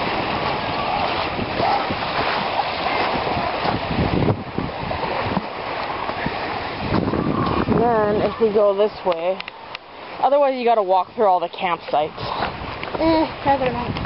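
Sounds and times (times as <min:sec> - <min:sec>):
lake waves lapping at shore: 0:00.0 - 0:14.0
wind buffeting microphone: 0:00.0 - 0:14.0.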